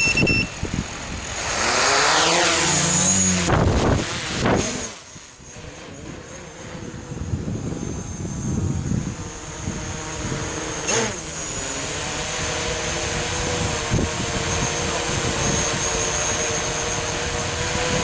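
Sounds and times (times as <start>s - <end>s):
drone motors and propellers: 0.0s - 18.0s.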